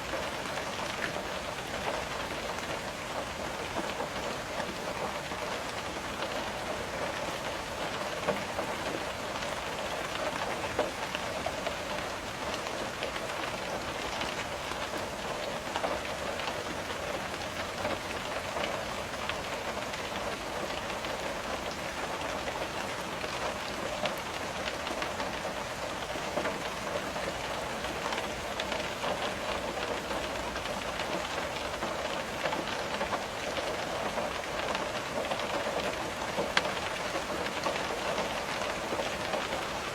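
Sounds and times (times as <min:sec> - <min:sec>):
raindrops tapping on window: 0:00.1 - 0:39.9.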